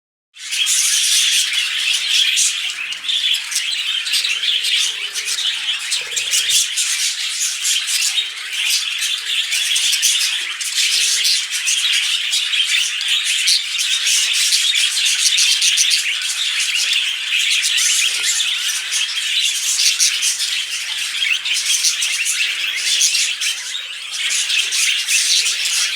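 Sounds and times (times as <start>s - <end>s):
budgerigars chattering and warbling: 0.4s - 25.9s.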